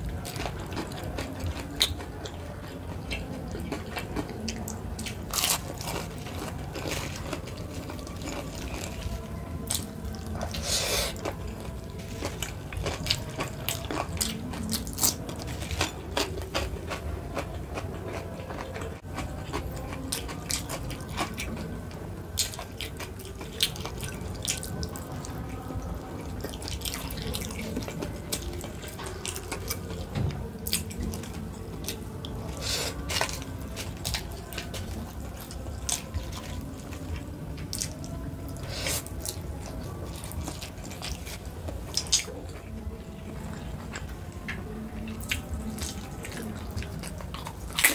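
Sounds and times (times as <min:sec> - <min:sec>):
wet chewing and smacking: 0:00.0 - 0:47.9.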